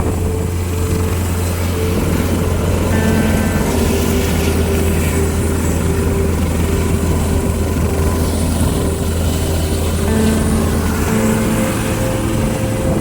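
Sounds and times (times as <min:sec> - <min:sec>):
helicopter drone: 0:00.0 - 0:13.0.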